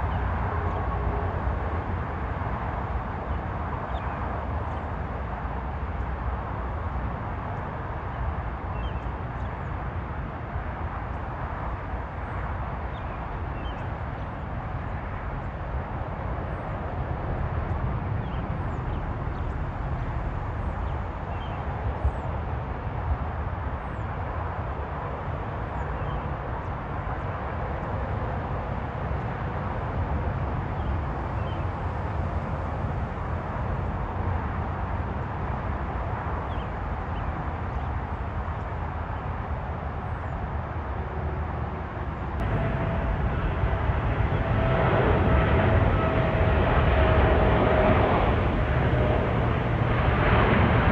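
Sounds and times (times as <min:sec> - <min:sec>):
low outdoor rumble: 0:00.0 - 0:50.9.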